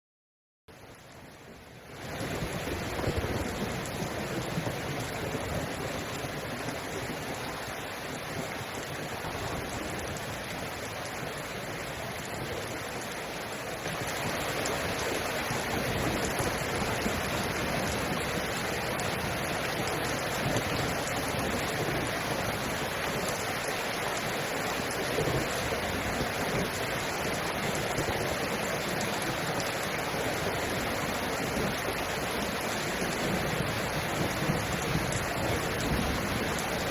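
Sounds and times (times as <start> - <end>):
steady rainfall: 0.7 - 36.9.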